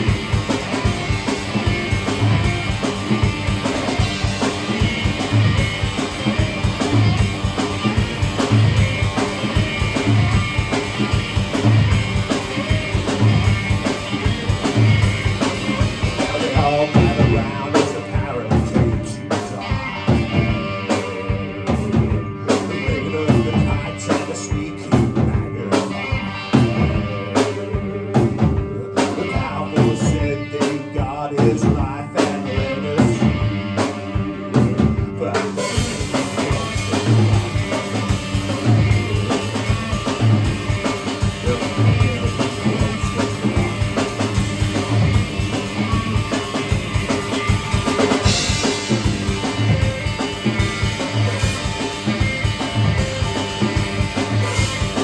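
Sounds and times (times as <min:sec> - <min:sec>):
bass guitar: 0:00.0 - 0:55.0
drum kit playing: 0:00.0 - 0:55.0
sustained guitar: 0:00.0 - 0:55.0.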